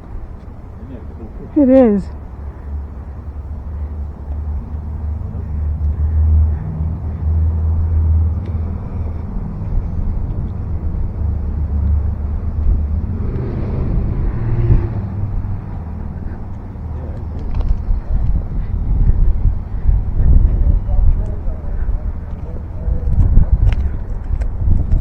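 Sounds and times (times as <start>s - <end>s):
vehicle rumbling in motion: 0.0s - 25.0s.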